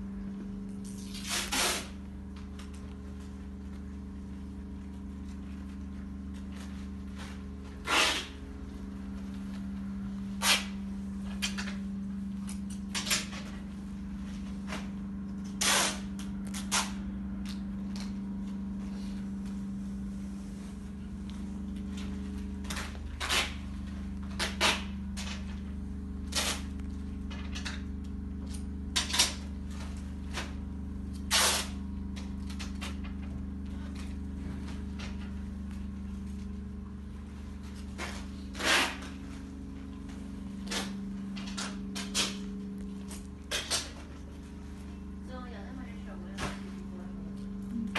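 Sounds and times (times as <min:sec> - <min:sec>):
low machine hum: 0:00.0 - 0:47.9.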